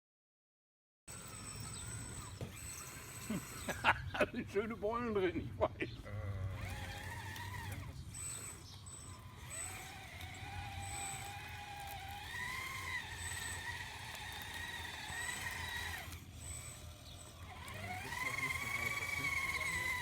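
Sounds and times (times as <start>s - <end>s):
electric drive and hydraulic whine: 1.1s - 20.0s.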